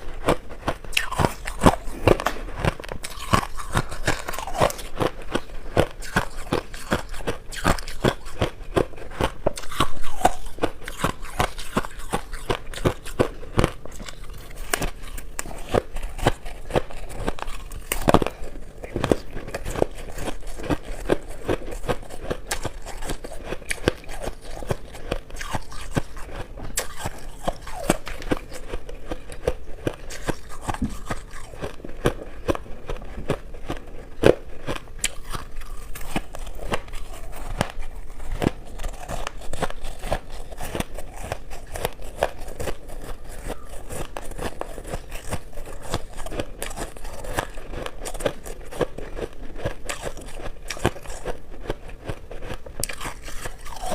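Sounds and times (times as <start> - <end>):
person chewing shaved ice: 0.0 - 53.9.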